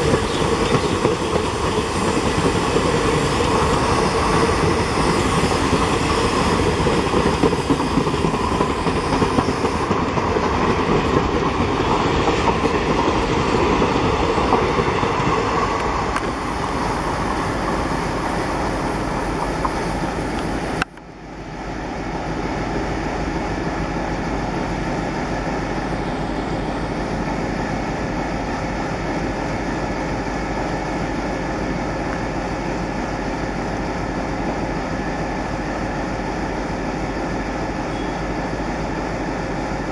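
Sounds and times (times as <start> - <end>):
train rumbling through station: 0.0 - 39.9.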